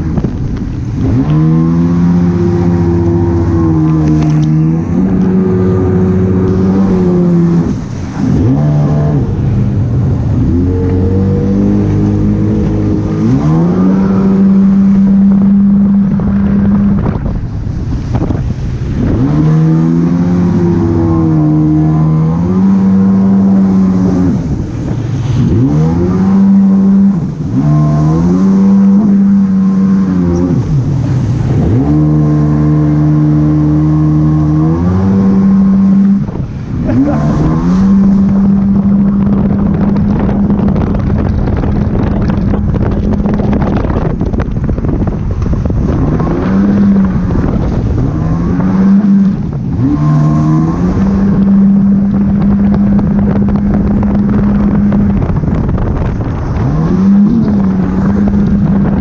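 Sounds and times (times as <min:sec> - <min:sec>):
jet ski engine revving: 0:00.0 - 0:59.0
wind and water spray: 0:00.0 - 0:59.0.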